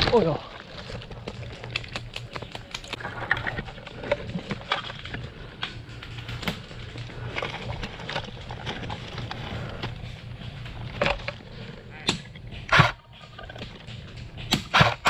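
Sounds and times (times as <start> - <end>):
clicks and crackles in undergrowth: 0.0 - 14.9
rustling undergrowth: 0.0 - 15.0
steady low hum: 0.0 - 15.0.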